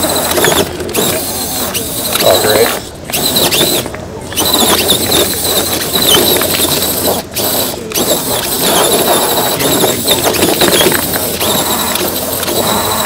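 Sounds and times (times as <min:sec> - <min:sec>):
toy car motor whining: 0:00.0 - 0:13.0.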